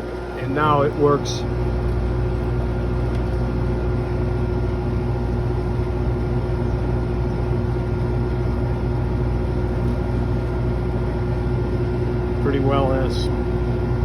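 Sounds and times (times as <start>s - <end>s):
chiller machinery hum: 0.0s - 14.0s.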